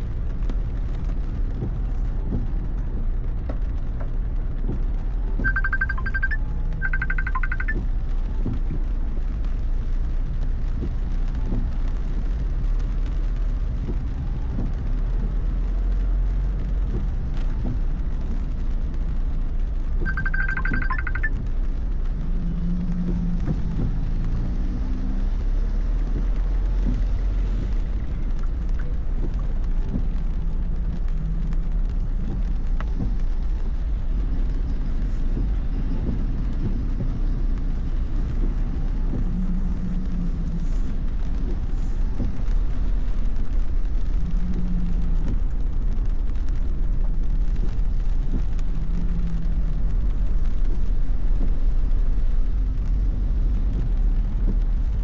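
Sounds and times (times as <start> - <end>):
rain hissing on car: 0.0 - 55.0
road and engine rumble: 0.0 - 55.0.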